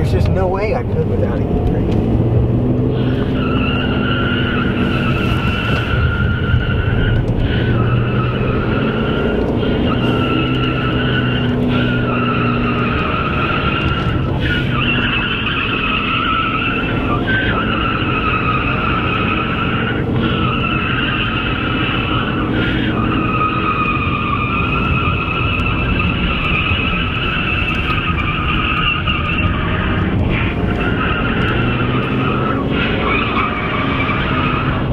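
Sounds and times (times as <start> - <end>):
car engine running: 0.0 - 34.9
car tyres squealing: 0.0 - 34.9.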